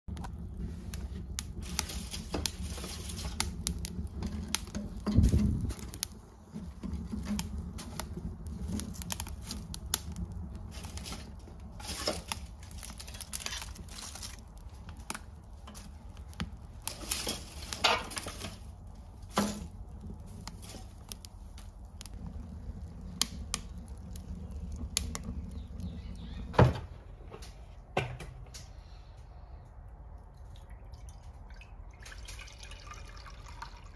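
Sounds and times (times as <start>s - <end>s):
fire crackling in stove: 0.1s - 33.9s.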